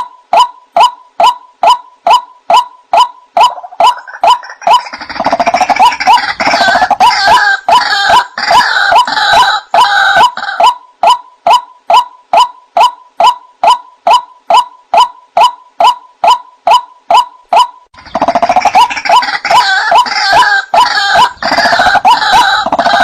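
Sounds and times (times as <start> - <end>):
overlapping croaking calls: 0.0 - 23.0.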